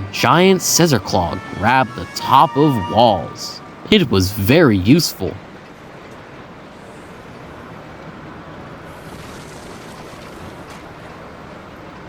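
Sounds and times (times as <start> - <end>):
construction machinery rumbling: 0.0 - 12.0.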